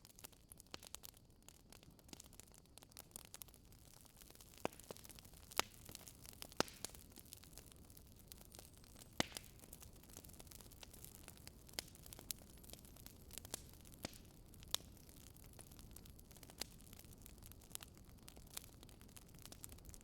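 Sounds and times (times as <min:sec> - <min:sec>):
burning wood popping: 0:00.0 - 0:20.0
fire log hissing and crackling: 0:00.0 - 0:20.0.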